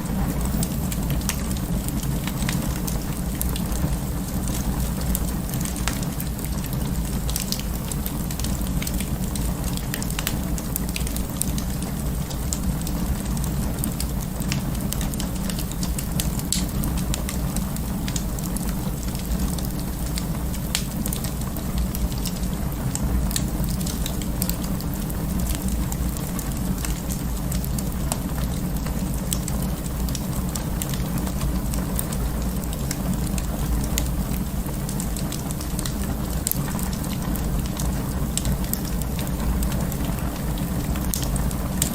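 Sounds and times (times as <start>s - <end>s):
burning wood crackling and popping: 0.0s - 41.9s
low rumble of flames: 0.0s - 41.9s.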